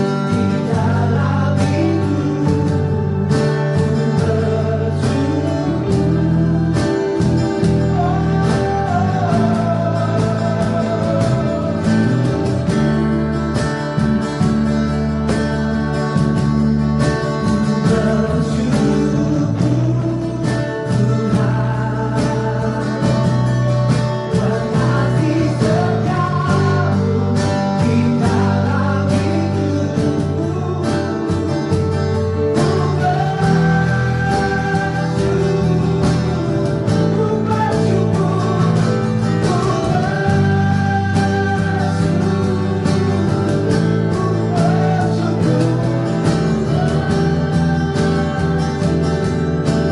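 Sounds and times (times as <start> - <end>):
person singing: 0.0 - 13.5, 17.1 - 49.9
guitar accompaniment: 0.0 - 49.9.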